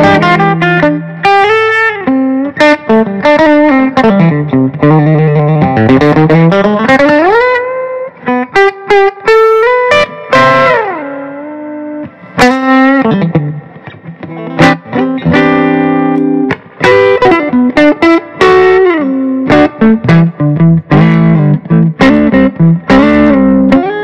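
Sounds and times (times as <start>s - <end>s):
electric guitar lead lines: 0.0s - 24.0s.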